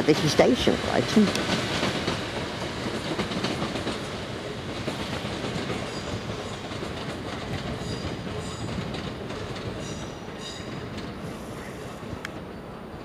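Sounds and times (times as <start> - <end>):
electric train passing: 0.0 - 13.0
wheels clicking over rail joints: 0.1 - 13.0.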